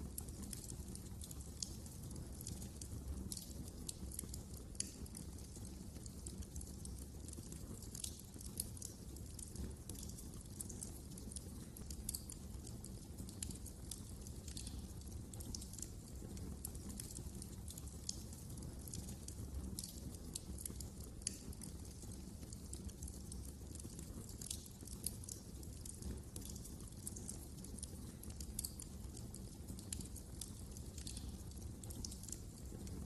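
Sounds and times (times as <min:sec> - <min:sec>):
fire snaps and pops: 0:00.0 - 0:33.0
low rumble of flames: 0:00.0 - 0:33.0
wood fire crackling: 0:00.0 - 0:33.0.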